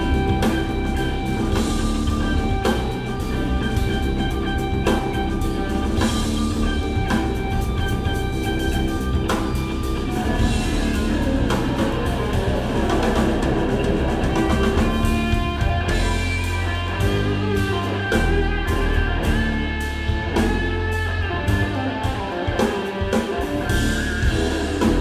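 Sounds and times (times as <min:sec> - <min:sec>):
bass guitar: 0:00.0 - 0:25.0
drum kit: 0:00.0 - 0:25.0
electric guitar holding notes: 0:00.0 - 0:25.0.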